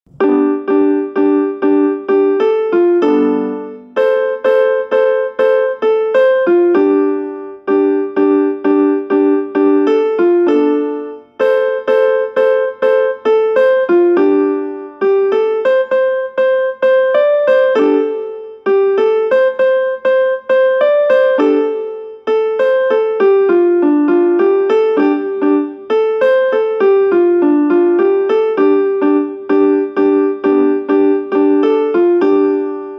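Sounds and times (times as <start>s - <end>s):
phone ringtone on electric piano: 0.2s - 32.9s.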